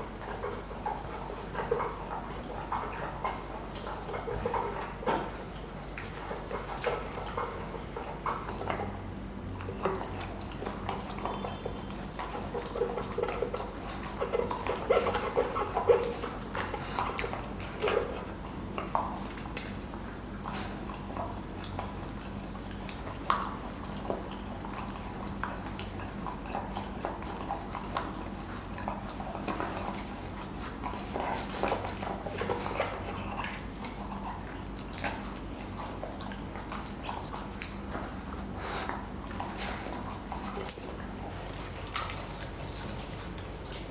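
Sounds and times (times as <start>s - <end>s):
puppy licking and chewing: 0.0s - 43.9s.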